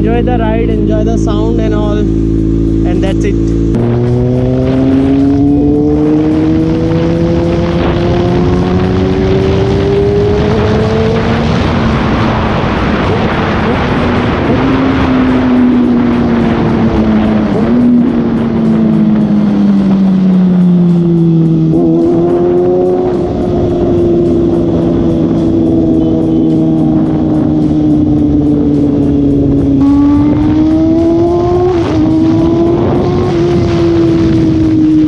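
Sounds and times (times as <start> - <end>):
motorcycle engine at speed: 0.0 - 35.0.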